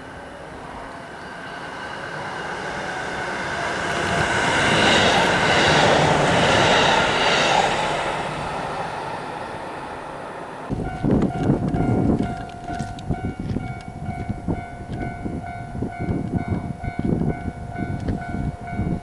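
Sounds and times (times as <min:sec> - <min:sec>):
electric train passing at speed: 0:00.0 - 0:19.0.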